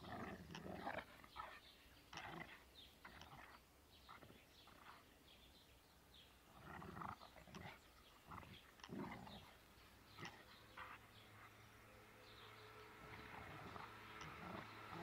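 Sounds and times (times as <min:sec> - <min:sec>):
dogs growling and snarling: 0:00.0 - 0:05.1, 0:06.4 - 0:15.0.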